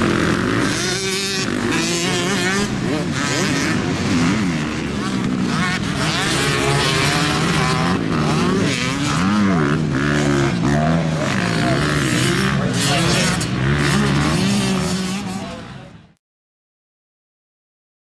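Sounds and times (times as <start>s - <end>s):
dirt bike engines revving: 0.0s - 16.2s.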